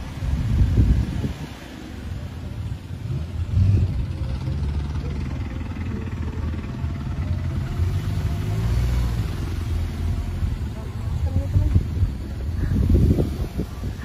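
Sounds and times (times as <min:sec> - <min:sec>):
car engines rumbling: 0:00.0 - 0:14.0
road noise: 0:00.0 - 0:14.0.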